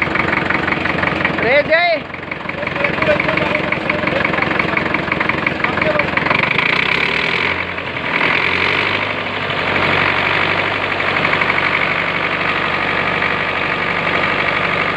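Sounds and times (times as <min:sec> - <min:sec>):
tractor diesel engine idling: 0:00.0 - 0:14.9.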